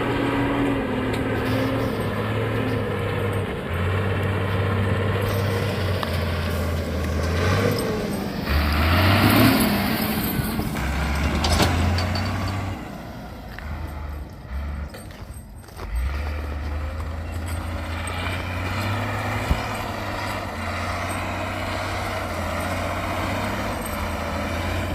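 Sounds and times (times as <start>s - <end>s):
off-road vehicle engine drone: 0.0s - 24.9s.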